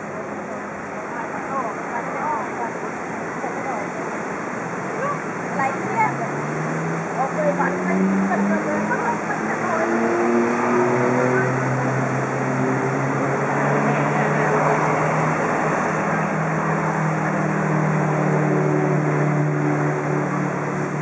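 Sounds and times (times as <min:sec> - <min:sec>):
traffic noise: 0:00.0 - 0:21.0
vehicle engine humming: 0:00.0 - 0:21.0.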